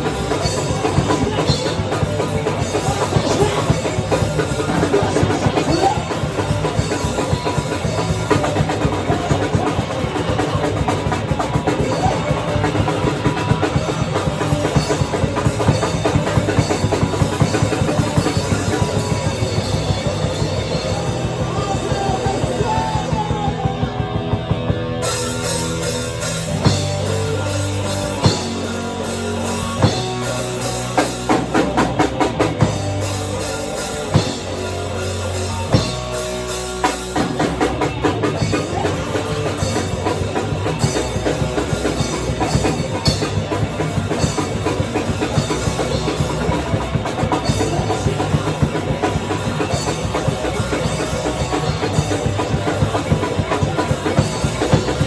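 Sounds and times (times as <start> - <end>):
band playing rock music: 0.0 - 55.0.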